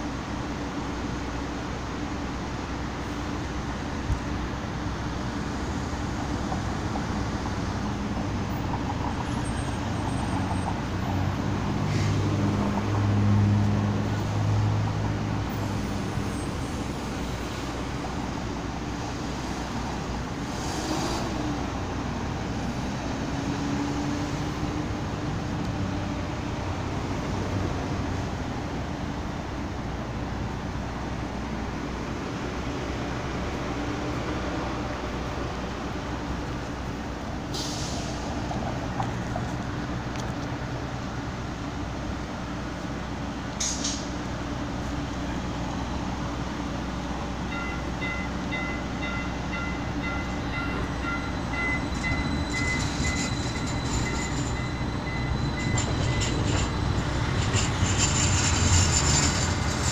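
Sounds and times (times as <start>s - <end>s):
city traffic hum: 0.0s - 59.9s
heavy vehicle rumble: 0.0s - 59.9s.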